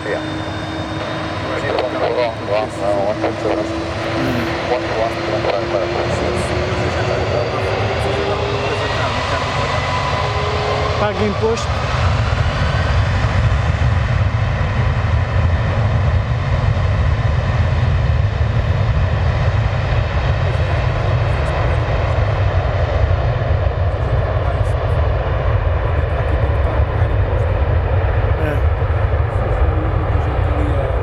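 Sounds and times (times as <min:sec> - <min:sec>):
high jet engine whine: 0:00.0 - 0:31.0
jet engines rumbling: 0:00.0 - 0:31.0.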